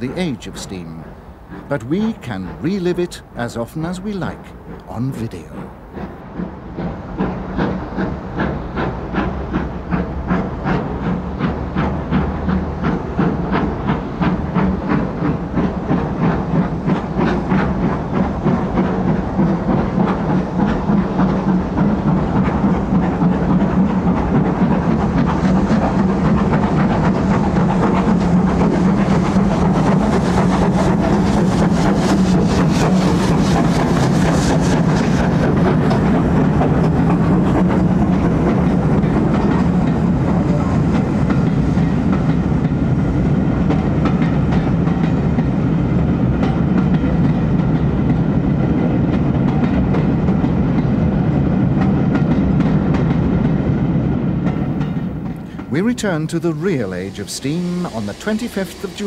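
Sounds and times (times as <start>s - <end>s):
train clicks: 0.0s - 59.0s
train rumbling on track: 0.0s - 59.0s.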